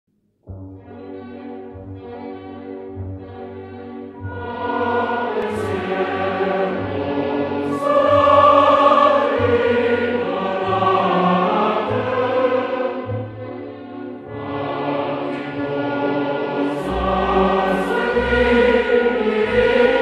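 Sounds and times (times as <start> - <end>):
sustained accompaniment: 0.5 - 20.0
choir holding long notes: 1.2 - 20.0.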